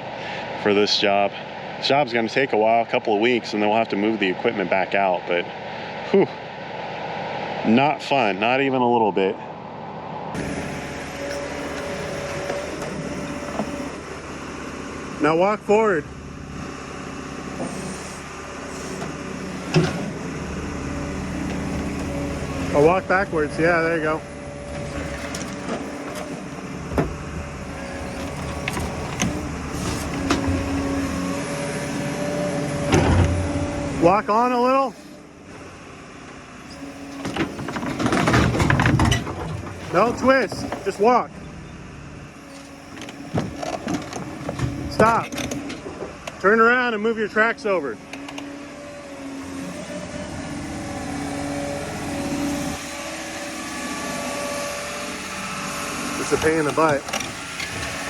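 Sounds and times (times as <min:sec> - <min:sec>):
excavator engine running: 0:00.0 - 0:58.0.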